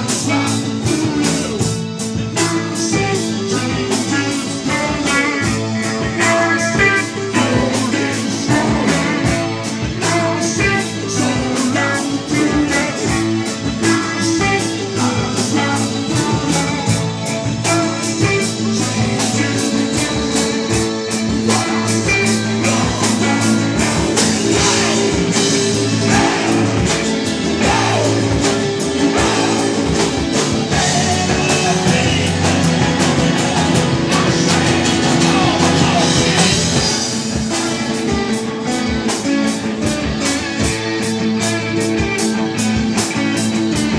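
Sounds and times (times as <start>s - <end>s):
drum kit steady beat: 0.0s - 43.9s
live rock band playing: 0.0s - 43.9s
voices singing: 0.0s - 43.9s.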